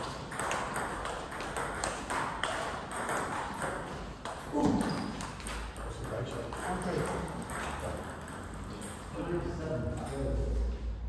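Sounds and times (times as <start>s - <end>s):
table tennis ball clicking and bouncing: 0.0s - 9.2s.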